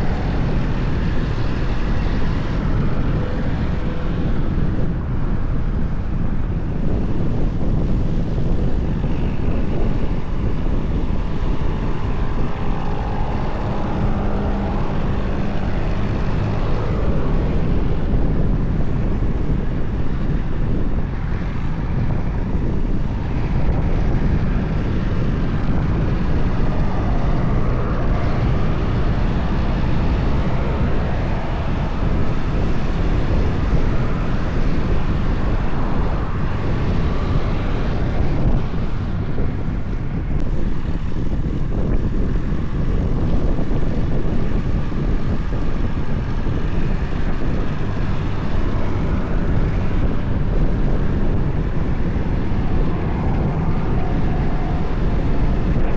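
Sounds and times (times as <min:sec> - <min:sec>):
tractor engines droning: 0:00.0 - 0:55.9.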